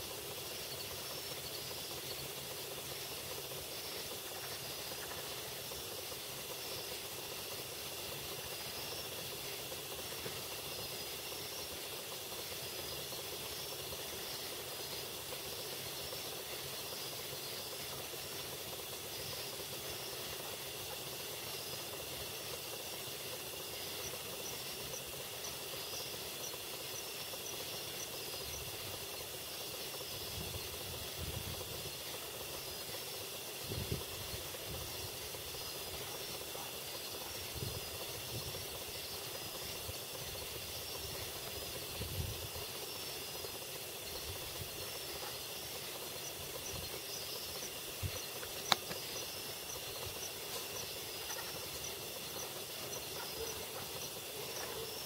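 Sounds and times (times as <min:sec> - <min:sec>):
high insect drone: 0:00.0 - 0:55.0
recording hiss: 0:00.0 - 0:55.0.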